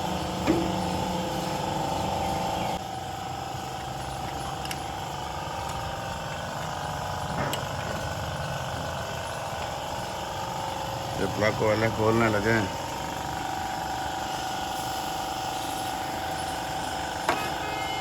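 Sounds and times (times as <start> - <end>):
car engine idling: 0.0 - 17.7.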